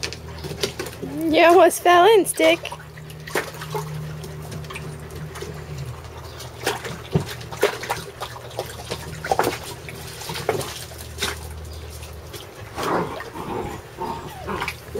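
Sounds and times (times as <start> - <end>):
shallow water sloshing and dripping: 0.0 - 14.9
small splashes: 0.0 - 14.9
steady low hum: 0.0 - 14.9.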